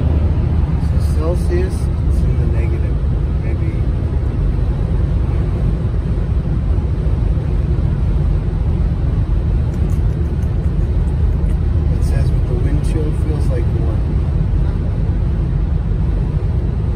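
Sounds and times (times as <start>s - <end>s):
car road noise rumble: 0.0s - 16.9s.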